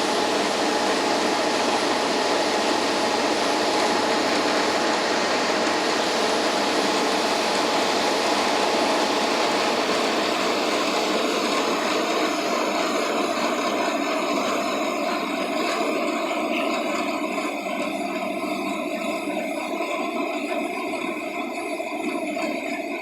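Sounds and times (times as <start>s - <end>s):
motorboat engine drone: 0.0s - 23.0s.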